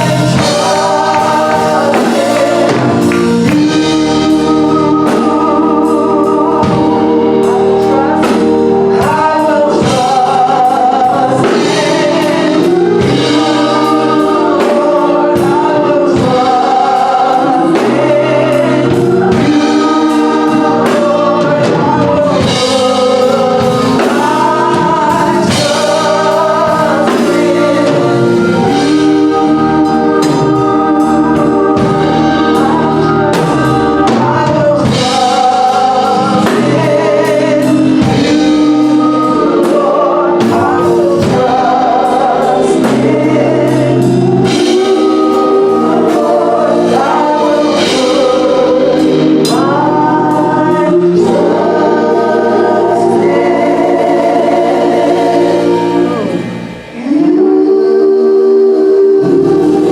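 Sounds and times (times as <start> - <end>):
instrumental accompaniment with beat: 0.0 - 57.9
gospel choir singing: 0.0 - 59.9.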